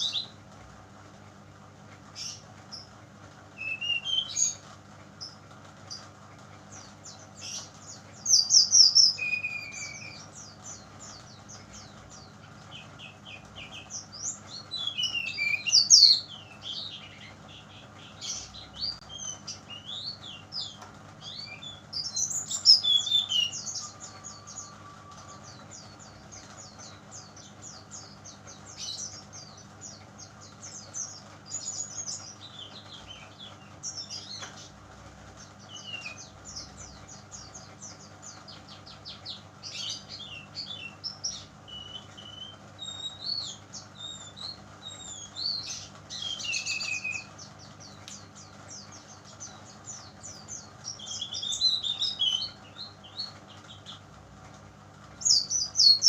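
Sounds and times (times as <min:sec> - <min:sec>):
faint steady hum: 0:00.0 - 0:56.0
bird singing high chirps: 0:03.6 - 0:04.6, 0:06.7 - 0:34.5, 0:35.7 - 0:54.0, 0:55.2 - 0:56.0.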